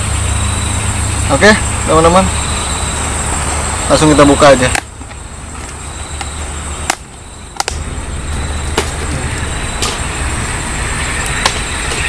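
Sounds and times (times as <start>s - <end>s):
high steady buzz: 0.0s - 12.0s.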